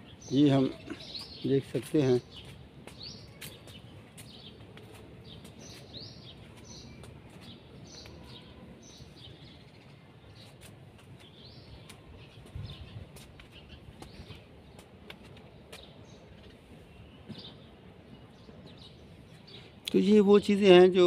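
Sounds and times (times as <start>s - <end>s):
outdoor background noise: 0.0s - 21.0s
small birds chirping: 0.0s - 21.0s.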